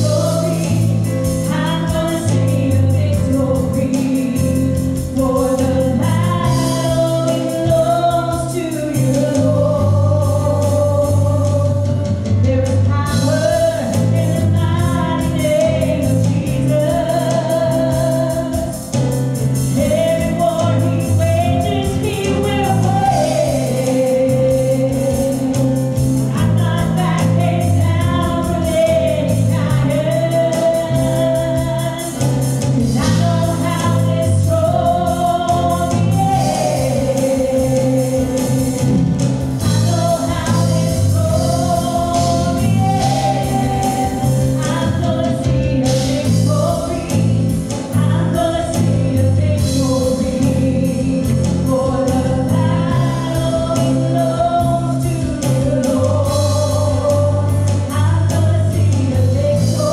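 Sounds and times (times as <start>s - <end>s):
acoustic guitar: 0.0s - 59.9s
bass line and beat: 0.0s - 59.9s
keyboard: 0.0s - 59.9s
woman singing: 0.0s - 59.9s.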